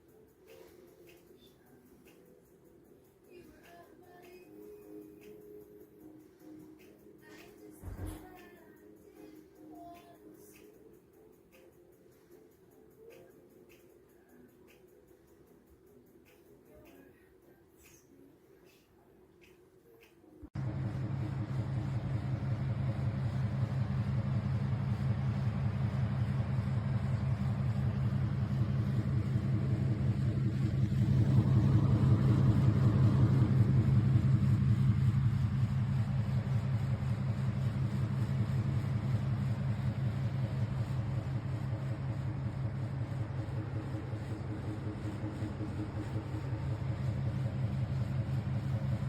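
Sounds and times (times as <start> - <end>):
computer fans humming: 0.0 - 49.0.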